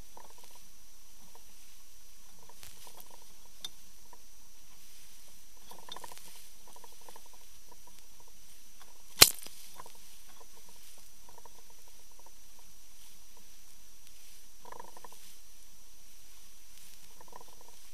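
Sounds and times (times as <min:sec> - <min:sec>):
faint high whine: 0:00.0 - 0:17.9.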